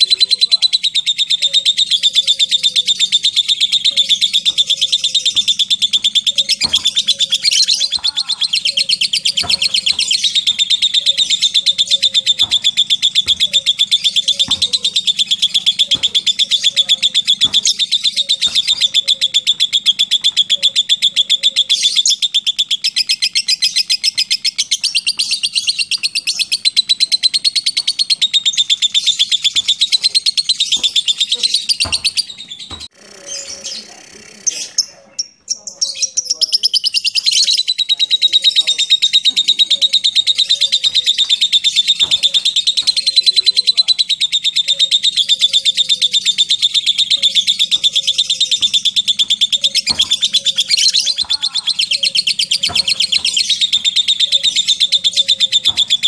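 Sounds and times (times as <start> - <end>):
bird chattering trill: 0.0 - 56.0
faint low bird chirp: 0.0 - 56.0.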